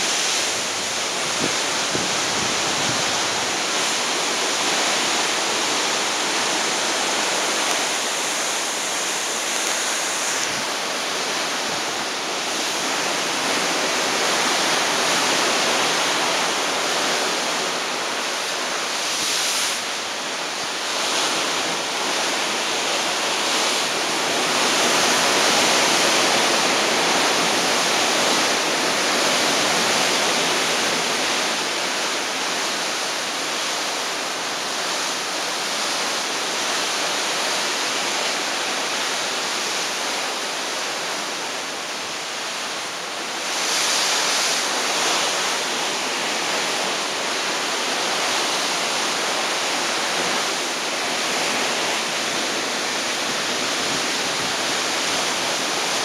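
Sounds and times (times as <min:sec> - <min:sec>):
bow wave rushing along hull: 0:00.0 - 0:56.0.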